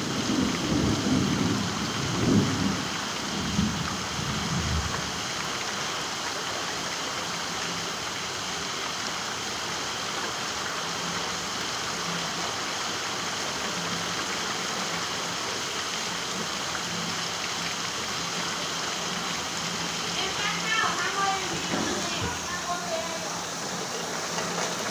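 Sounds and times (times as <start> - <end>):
rain falling: 0.0 - 24.9.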